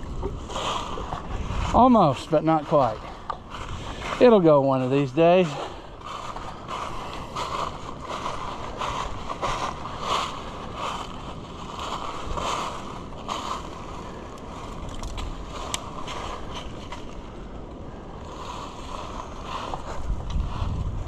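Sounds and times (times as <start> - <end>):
farm vehicle rumbling: 0.0 - 21.0
wind buffeting microphone: 0.0 - 21.0.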